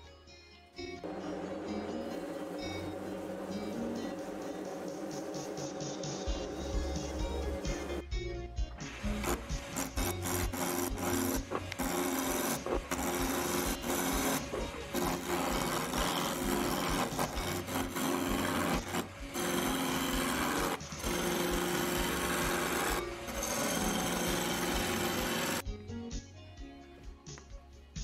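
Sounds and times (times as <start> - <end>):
lathe motor hum: 1.0 - 8.0, 9.0 - 25.6
lathe tool scraping wood: 1.0 - 8.0, 8.9 - 25.6.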